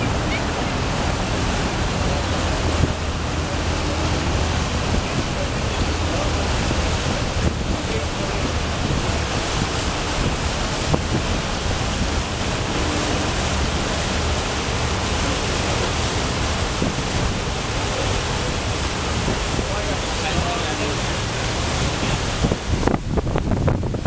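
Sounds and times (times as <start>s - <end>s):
wind rushing: 0.0s - 17.7s, 21.1s - 24.0s
water splashing: 0.0s - 24.0s
wind buffeting microphone: 0.0s - 24.0s.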